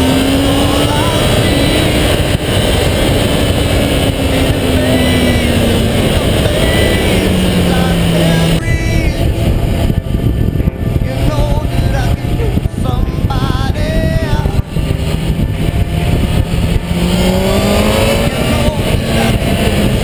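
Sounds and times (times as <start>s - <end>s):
motorcycle engine at high revs: 0.0s - 20.0s
wind rush on microphone: 0.0s - 20.0s.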